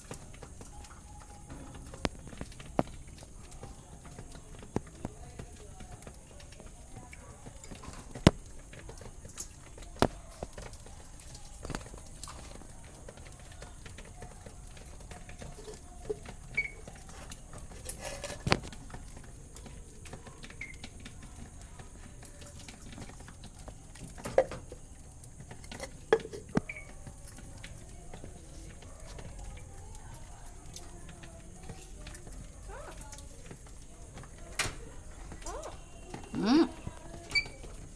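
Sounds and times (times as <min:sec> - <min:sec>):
birds tapping and knocking: 0:00.0 - 0:37.9.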